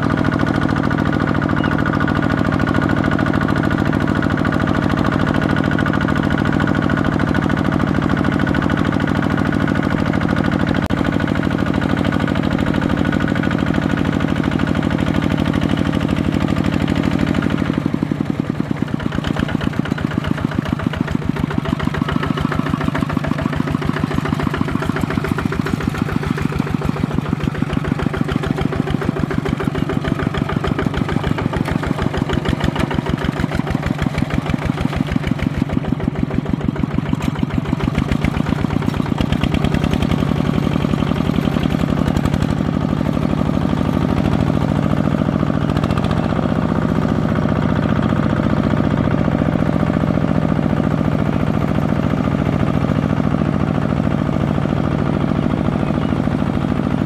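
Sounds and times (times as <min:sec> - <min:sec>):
diesel tractor engine chugging: 0:00.0 - 0:57.0.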